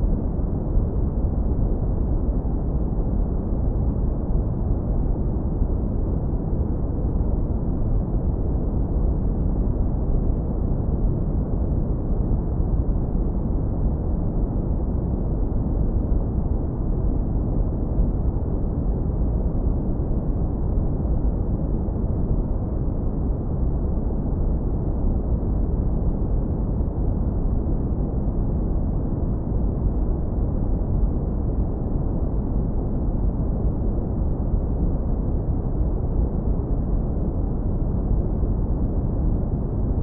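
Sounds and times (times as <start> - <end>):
deep brown noise rumble: 0.0 - 40.0.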